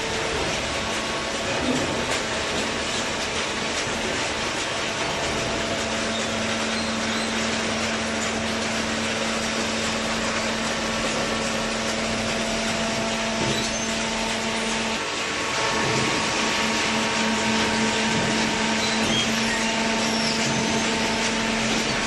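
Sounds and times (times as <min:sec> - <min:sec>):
hydraulic baling press running: 0:00.0 - 0:22.0.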